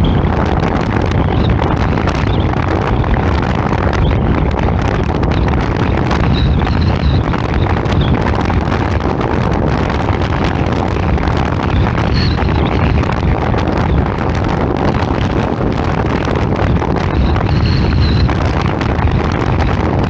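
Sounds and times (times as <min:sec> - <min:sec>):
low road and traffic rumble: 0:00.0 - 0:20.0
wind buffeting microphone: 0:00.0 - 0:20.0.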